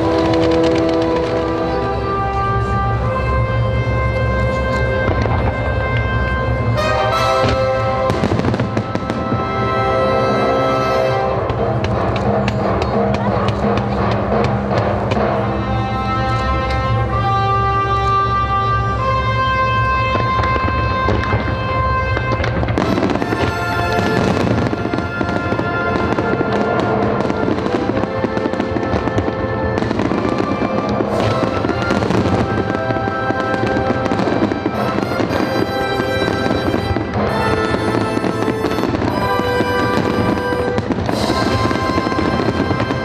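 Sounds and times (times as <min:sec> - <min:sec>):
fireworks crackling and popping: 0:00.0 - 0:43.0
orchestral music: 0:00.0 - 0:43.0.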